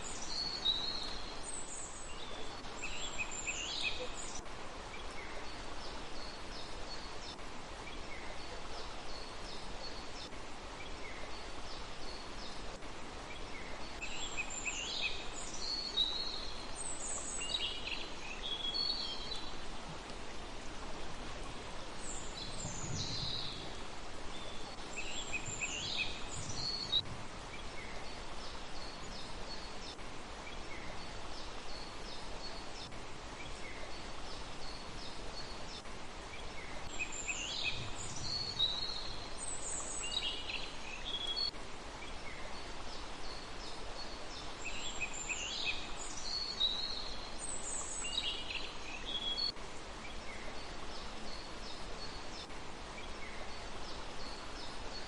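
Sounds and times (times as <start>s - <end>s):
small birds calling and singing: 0.0s - 55.0s
steady hiss: 0.0s - 55.0s.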